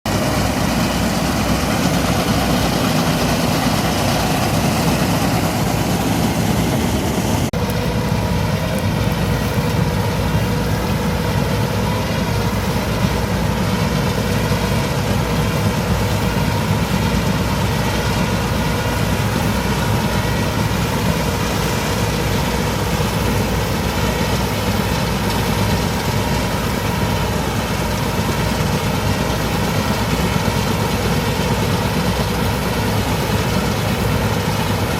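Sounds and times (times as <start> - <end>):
steady whine: 0.0 - 34.9
tractor diesel engine running: 0.0 - 34.9.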